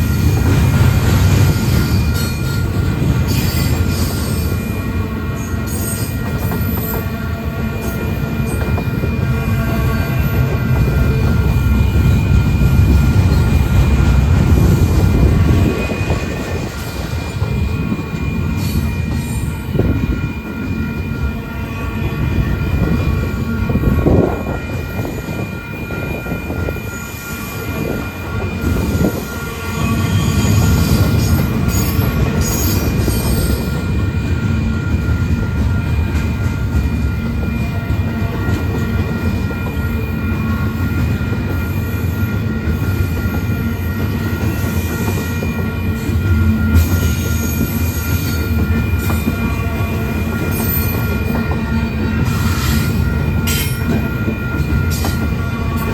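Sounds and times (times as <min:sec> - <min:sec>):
steel wheels squealing on rails: 0:00.0 - 0:55.9
train cars rumbling past: 0:00.0 - 0:55.9.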